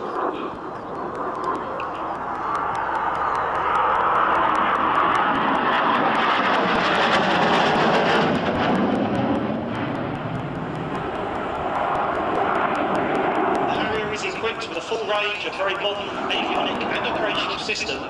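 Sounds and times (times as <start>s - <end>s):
loud jet noise: 0.0s - 18.0s.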